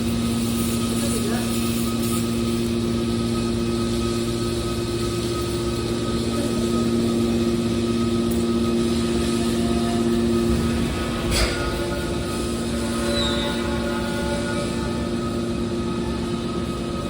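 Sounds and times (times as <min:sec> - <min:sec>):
baler machine hum: 0:00.0 - 0:17.0
constant pitched whine: 0:00.0 - 0:17.0.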